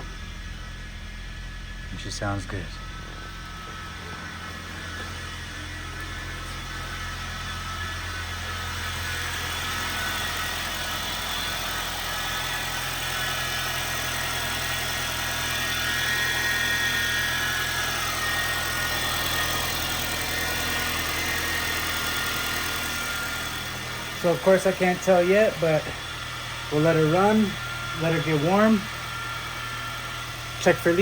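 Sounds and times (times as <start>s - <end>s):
car engine idling: 0.0s - 31.0s
high whining noise: 0.0s - 31.0s.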